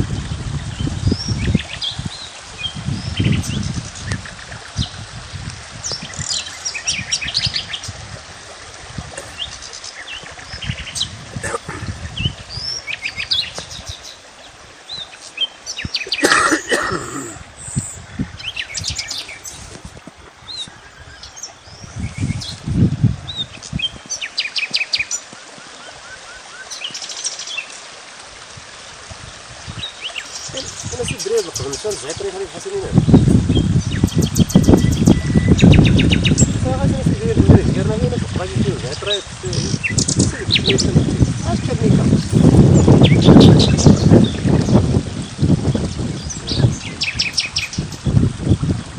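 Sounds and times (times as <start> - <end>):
small songbirds twittering: 0.1 - 8.0, 9.1 - 27.8, 29.2 - 48.9.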